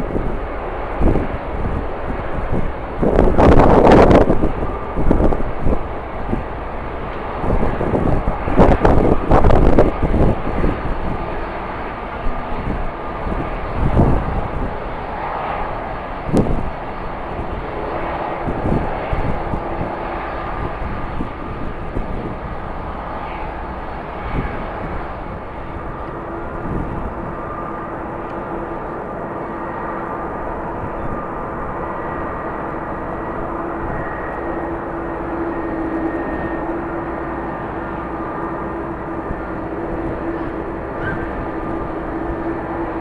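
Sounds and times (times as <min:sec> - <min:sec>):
jet engines droning: 0:00.0 - 0:43.0
wind buffeting microphone: 0:00.0 - 0:43.0.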